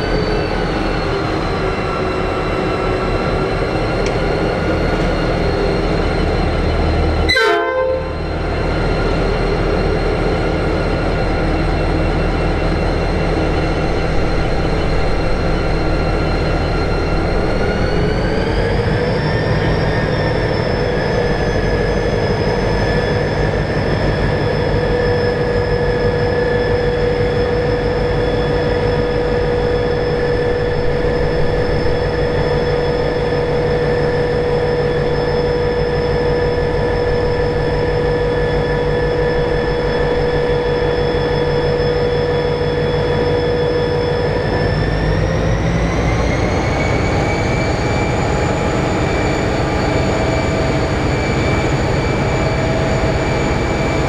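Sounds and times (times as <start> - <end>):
diesel locomotive engine rumbling: 0.0 - 54.0
engine whine: 0.0 - 54.0.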